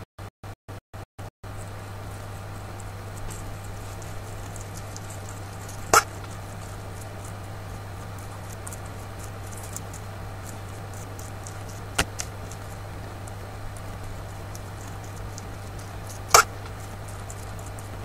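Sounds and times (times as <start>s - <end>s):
guinea pig chewing: 1.4s - 18.0s
guinea pig hiccuping: 1.5s - 18.0s.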